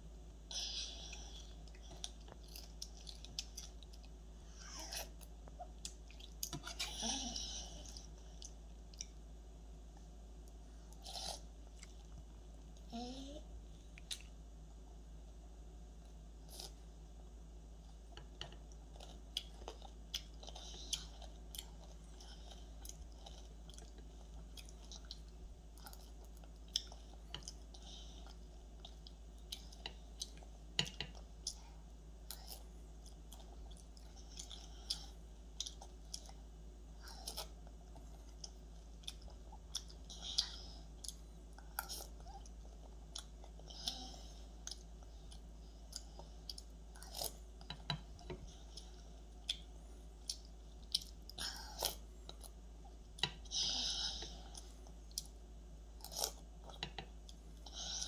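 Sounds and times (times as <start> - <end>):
child chewing: 0.5 - 9.3, 9.9 - 14.4, 16.0 - 17.0, 17.8 - 58.0.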